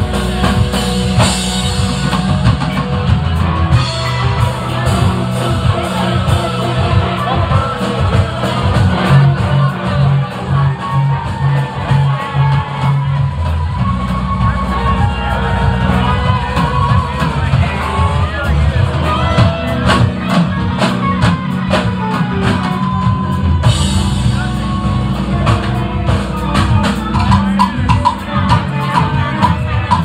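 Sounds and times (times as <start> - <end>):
drum kit beating: 0.0 - 30.0
electric guitars: 0.0 - 30.0.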